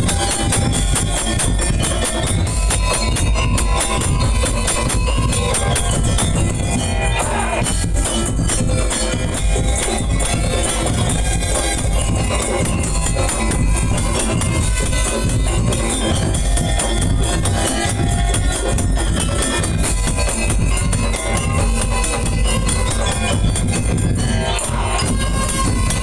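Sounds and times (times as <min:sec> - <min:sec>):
percussion band playing: 0:00.0 - 0:26.0.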